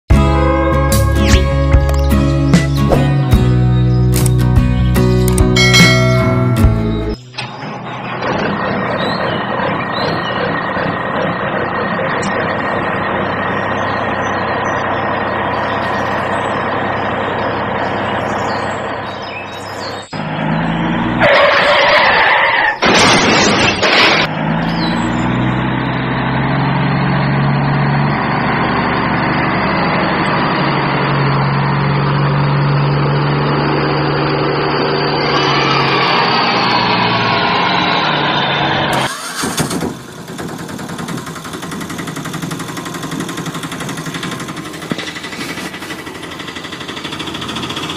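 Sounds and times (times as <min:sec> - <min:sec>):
low engine hum: 0:00.1 - 0:21.3, 0:24.3 - 0:47.9
truck-like engine running: 0:00.1 - 0:47.9.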